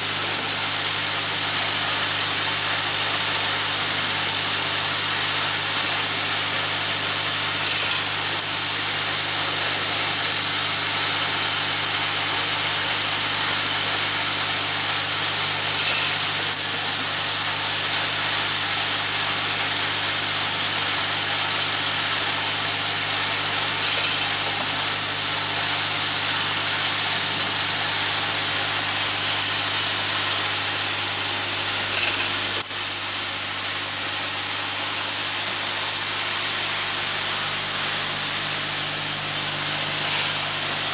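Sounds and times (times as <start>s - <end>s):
grinder hissing: 0.0s - 40.9s.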